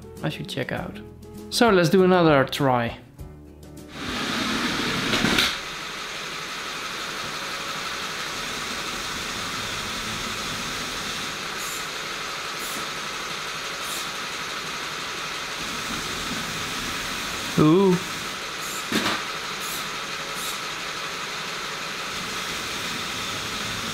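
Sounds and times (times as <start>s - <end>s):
small electric motors whirring: 3.9s - 23.9s.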